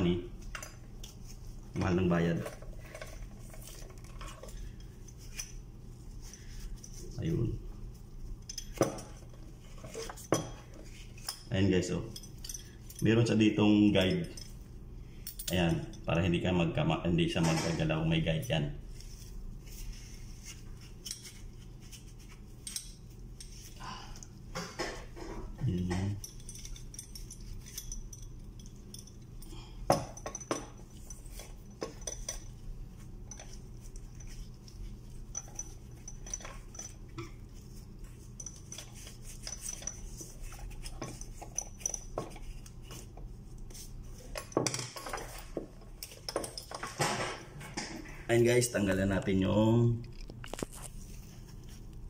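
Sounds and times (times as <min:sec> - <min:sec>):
metal lamp parts clinking: 0:00.0 - 0:07.2, 0:07.9 - 0:16.2, 0:17.4 - 0:48.0
low steady hum: 0:00.0 - 0:52.0.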